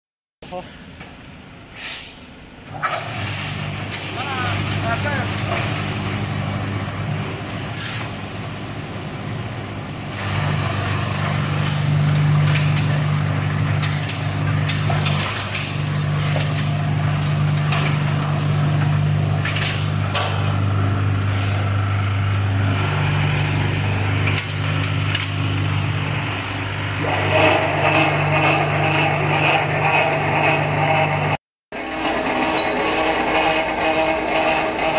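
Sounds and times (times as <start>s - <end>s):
crusher and conveyors humming: 0.4s - 34.9s.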